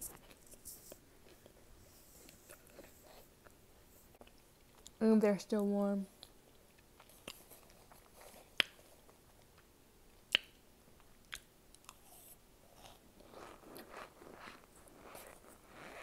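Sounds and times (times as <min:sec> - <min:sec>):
chewing: 0:00.1 - 0:05.0, 0:06.2 - 0:16.0.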